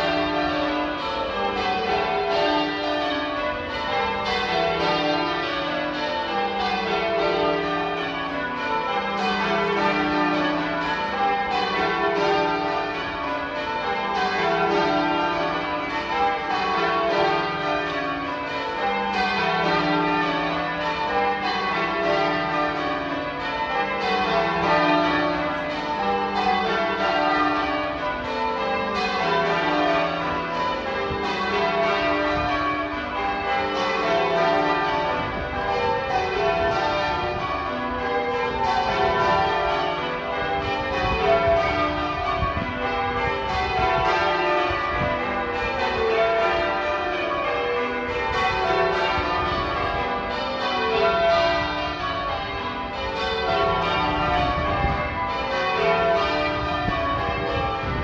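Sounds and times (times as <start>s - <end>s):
church bells change ringing: 0.0s - 58.0s.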